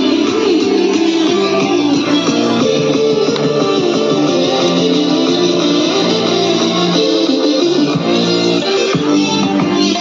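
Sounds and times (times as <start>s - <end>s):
guitar music through small speaker: 0.0s - 10.0s.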